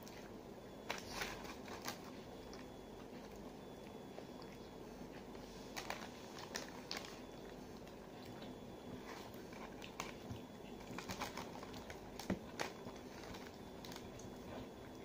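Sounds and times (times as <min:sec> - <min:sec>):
wet chewing mouth sounds: 0:01.9 - 0:15.0.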